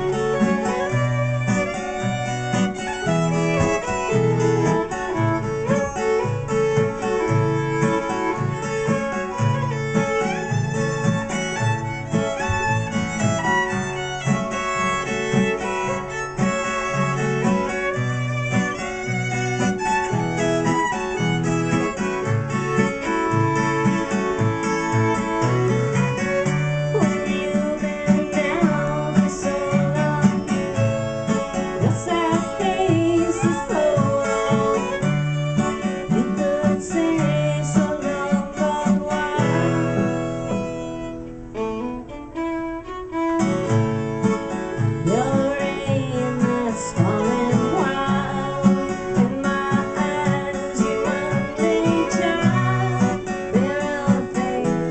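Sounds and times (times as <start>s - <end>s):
acoustic guitar: 0.0s - 54.9s
fiddle melody: 0.0s - 54.9s.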